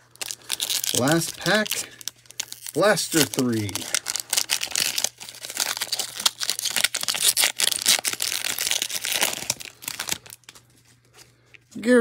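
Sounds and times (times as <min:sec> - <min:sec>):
foil wrapper tearing and crinkling: 0:00.0 - 0:10.7.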